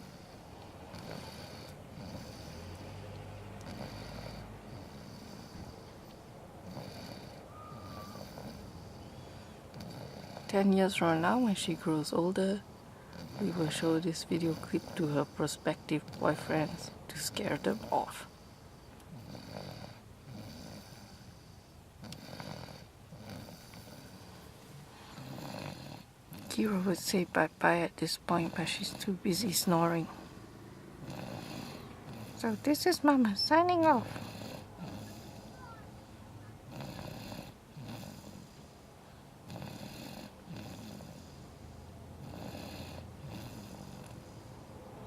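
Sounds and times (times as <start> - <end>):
baby snoring: 0.0 - 44.6.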